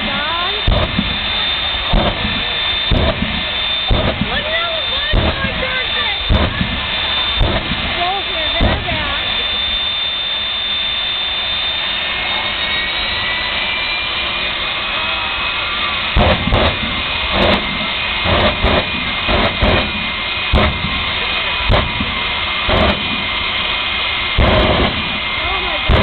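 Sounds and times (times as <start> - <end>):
jet engine roaring with high whine: 0.0 - 26.0.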